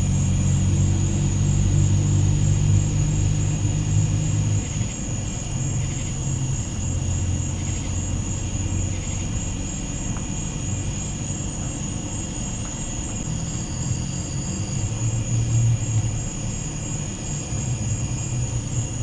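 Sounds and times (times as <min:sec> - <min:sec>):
crickets trilling: 0:00.0 - 0:19.0
low droning rumble: 0:00.0 - 0:19.0.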